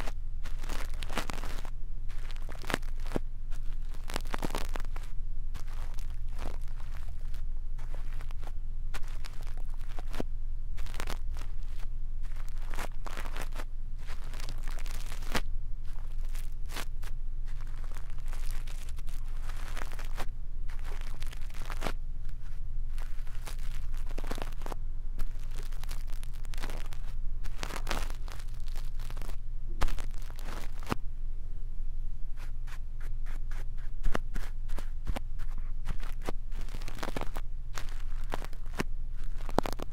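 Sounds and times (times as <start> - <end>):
brush scratching on microphone: 0.0 - 10.2, 10.8 - 31.0, 32.4 - 39.9
steady low hum: 0.0 - 39.9.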